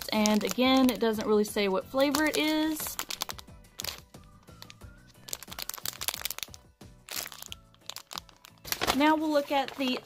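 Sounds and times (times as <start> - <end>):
faint background music: 0.0 - 10.0
plastic packaging crinkling: 0.0 - 10.0.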